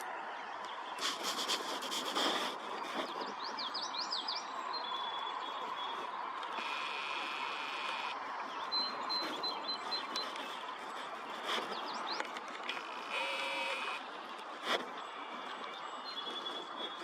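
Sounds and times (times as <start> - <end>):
songbirds chirping and singing: 0.0 - 17.0
steady outdoor hiss: 0.0 - 17.0.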